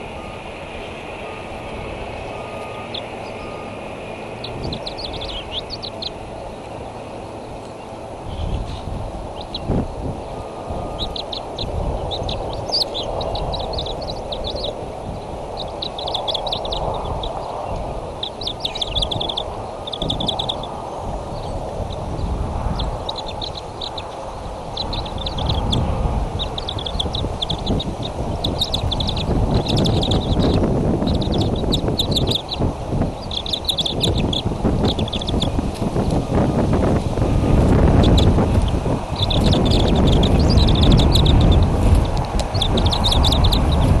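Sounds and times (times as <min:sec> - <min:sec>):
eaglets chittering calls: 0:00.0 - 0:44.0
steady low rumble: 0:00.0 - 0:44.0.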